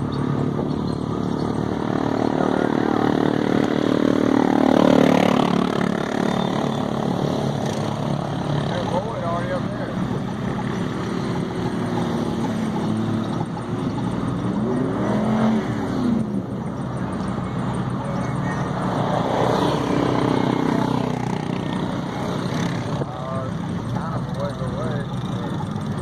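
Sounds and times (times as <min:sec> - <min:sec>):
truck engine revving: 0:00.0 - 0:26.0
truck engines running: 0:00.0 - 0:26.0.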